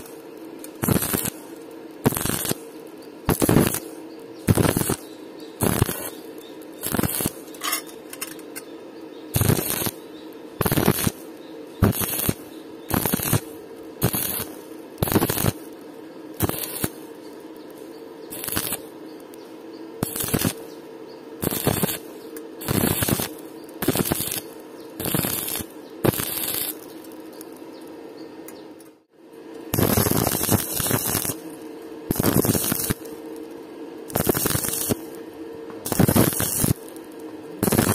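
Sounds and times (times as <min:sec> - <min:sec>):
welding arc crackling: 0:00.0 - 0:28.1, 0:28.8 - 0:37.9
steady hum: 0:00.0 - 0:37.9.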